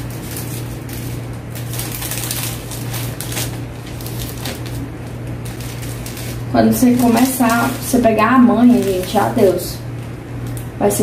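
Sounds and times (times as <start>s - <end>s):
plastic wrapping crinkling: 0.0s - 10.7s
steady low hum: 0.0s - 11.0s.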